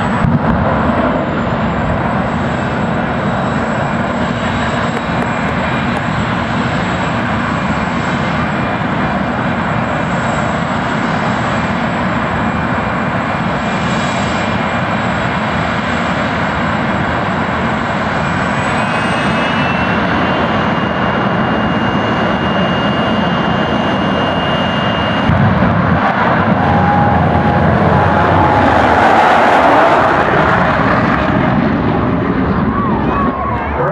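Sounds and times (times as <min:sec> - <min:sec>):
jet engine roaring with high whine: 0:00.0 - 0:33.9.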